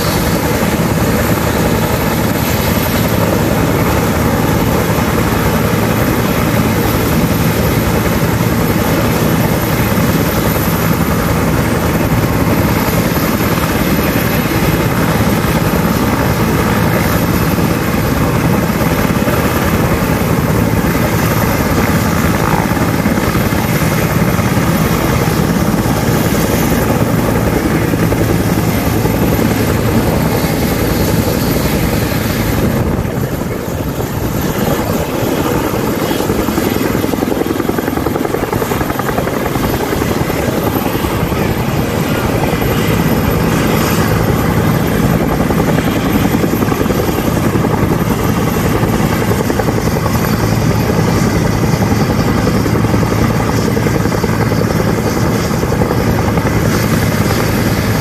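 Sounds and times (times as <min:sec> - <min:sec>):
helicopter rotor chop: 0:00.0 - 0:58.0
helicopter turbine whine: 0:00.0 - 0:58.0.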